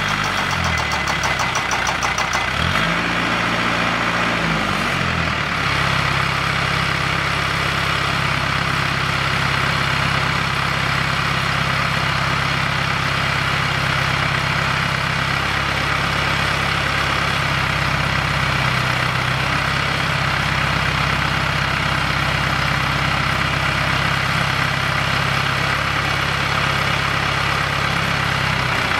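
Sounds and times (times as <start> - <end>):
post driver engine running: 0.0 - 28.9.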